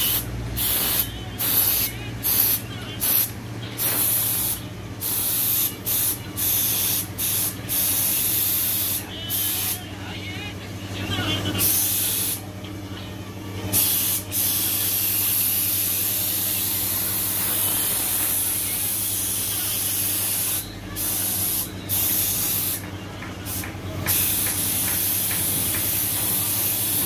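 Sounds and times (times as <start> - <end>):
paint spray gun hissing: 0.0 - 9.8, 13.8 - 22.8, 23.5 - 27.0.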